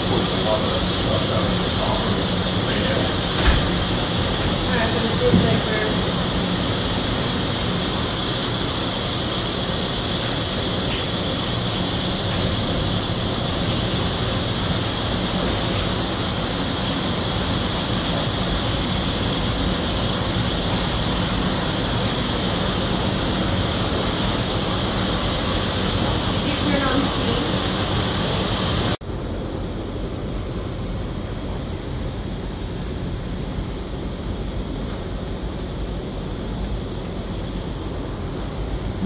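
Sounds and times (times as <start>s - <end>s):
low machine hum: 0.0s - 39.0s
steady hiss: 0.0s - 39.0s.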